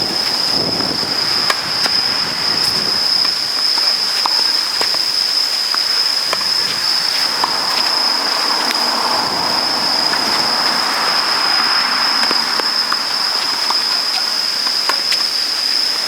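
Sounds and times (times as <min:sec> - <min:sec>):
rushing noise: 0:00.0 - 0:04.2, 0:05.1 - 0:15.5
high-pitched insect drone: 0:00.0 - 0:16.0.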